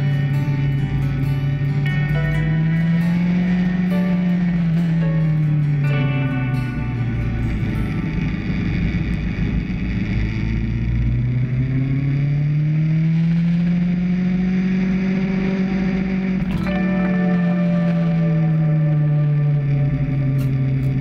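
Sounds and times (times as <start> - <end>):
motorcycle engine while riding: 0.0 - 21.0.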